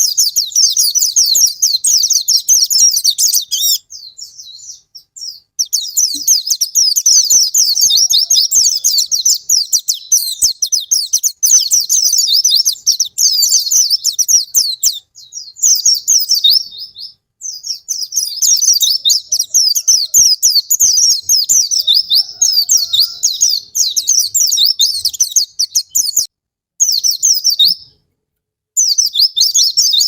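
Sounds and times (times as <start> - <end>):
bird high twittering: 0.0 - 27.9, 28.8 - 30.0.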